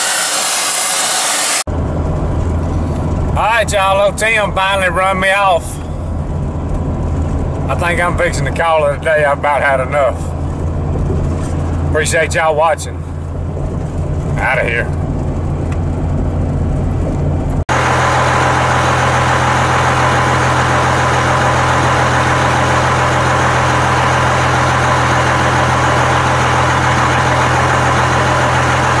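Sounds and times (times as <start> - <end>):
road noise inside truck cab: 0.0 - 29.0
engine idling with low hum: 1.7 - 29.0.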